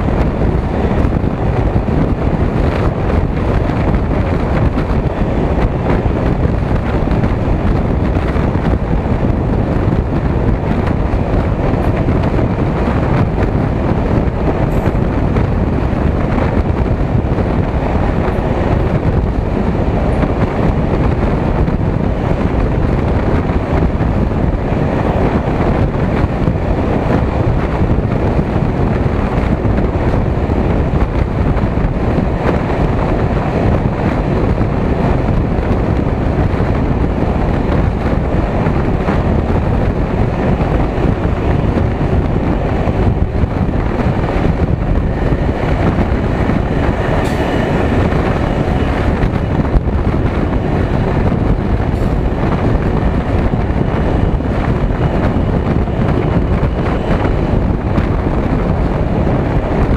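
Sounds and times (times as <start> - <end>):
train wheel and rail noise: 0.0 - 59.9
wind buffeting microphone: 0.0 - 59.9.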